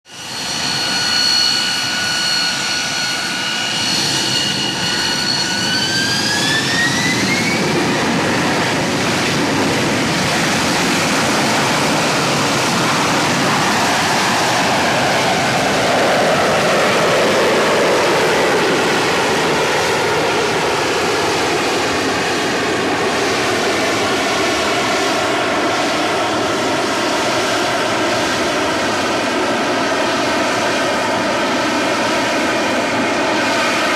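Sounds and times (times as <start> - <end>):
jet engine whine: 0.1 - 33.9
loud jet thrust noise: 0.2 - 33.9.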